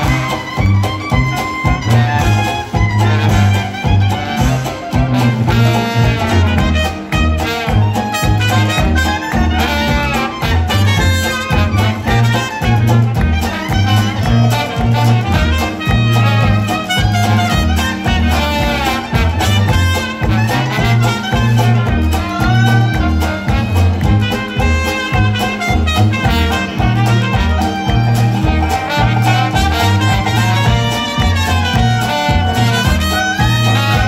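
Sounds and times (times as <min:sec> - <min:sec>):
banjo: 0:00.0 - 0:34.0
clarinet: 0:00.0 - 0:34.0
trombone: 0:00.0 - 0:34.0
trumpet: 0:00.0 - 0:34.0
tuba bass line: 0:00.0 - 0:34.0.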